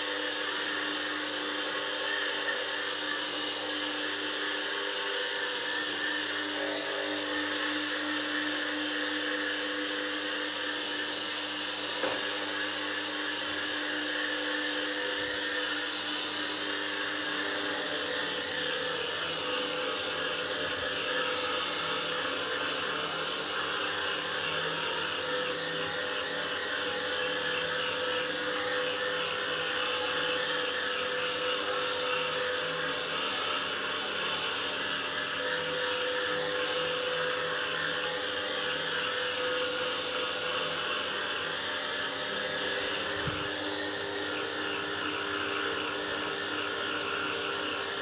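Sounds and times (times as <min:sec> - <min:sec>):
spin mop motor whirring: 0:00.0 - 0:48.0.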